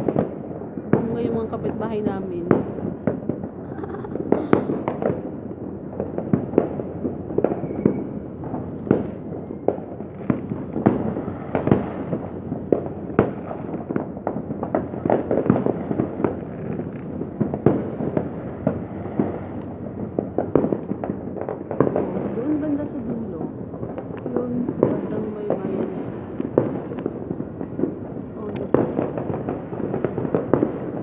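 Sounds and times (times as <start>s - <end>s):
fireworks bangs and crackle: 0.0s - 31.0s
sharp firework cracks: 0.0s - 31.0s.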